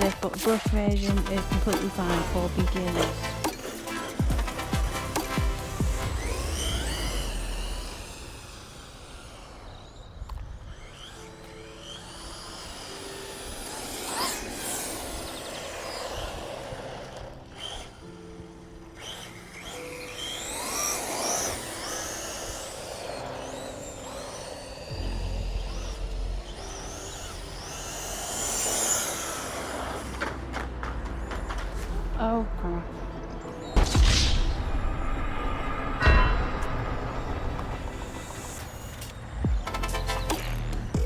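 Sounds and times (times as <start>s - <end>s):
background music with held notes: 0.0s - 8.4s, 11.0s - 41.0s
rc car motor whine: 0.0s - 41.0s.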